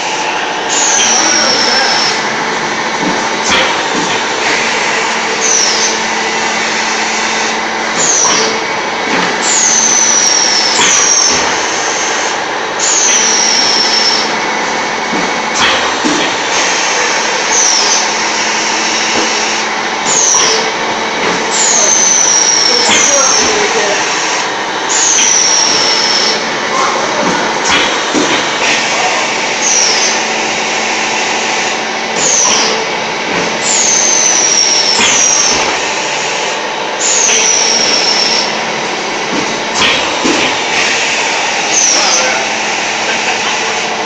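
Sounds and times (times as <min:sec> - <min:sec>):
tile making machine running: 0:00.0 - 0:44.0.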